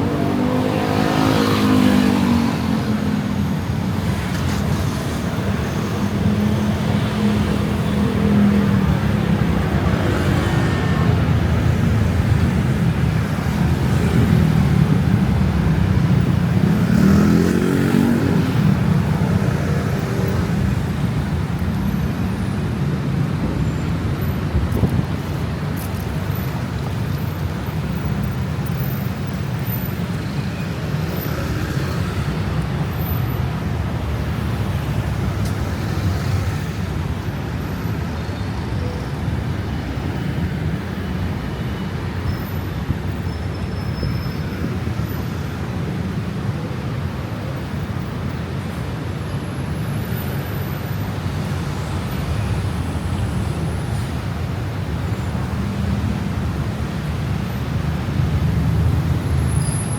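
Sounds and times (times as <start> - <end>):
rumble of passing traffic: 0.0 - 59.9.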